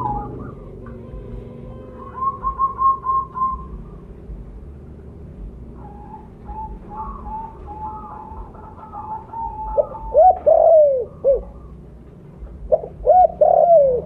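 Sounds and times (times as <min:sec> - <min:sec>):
dove calling: 0:00.0 - 0:04.4, 0:05.6 - 0:14.0.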